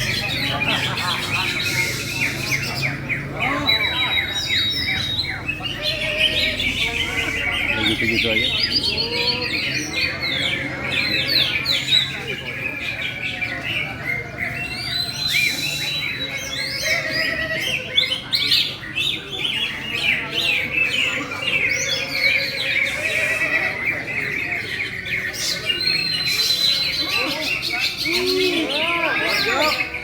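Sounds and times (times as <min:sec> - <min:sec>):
birds singing chorus: 0:00.0 - 0:30.0
murmur of voices: 0:00.0 - 0:30.0.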